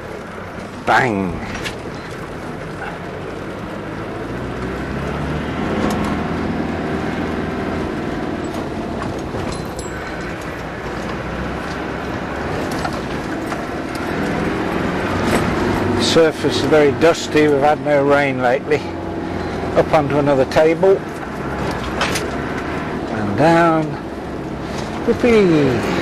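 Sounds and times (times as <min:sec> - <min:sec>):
car engine running under load: 0:00.0 - 0:26.0
knocks and rattles over bumps: 0:00.0 - 0:26.0.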